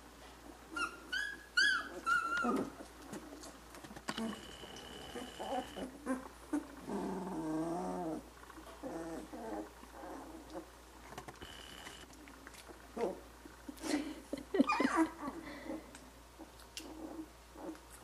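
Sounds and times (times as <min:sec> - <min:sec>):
puppies grumbling and squeaking: 0:00.4 - 0:18.0.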